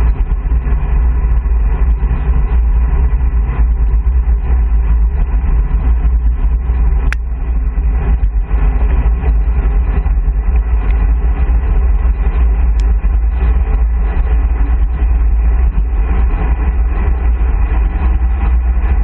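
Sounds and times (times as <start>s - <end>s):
tyre noise on asphalt: 0.0s - 19.0s
wind rushing over microphone: 0.0s - 19.0s.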